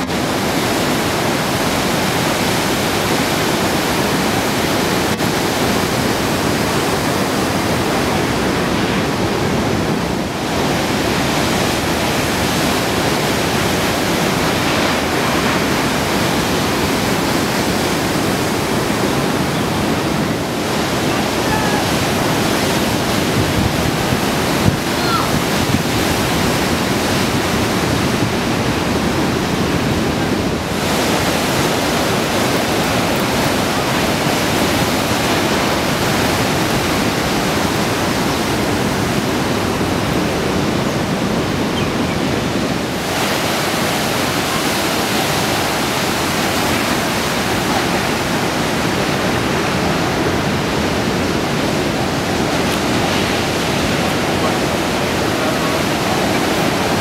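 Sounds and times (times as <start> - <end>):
heavy surf rushing hiss: 0.0 - 57.0.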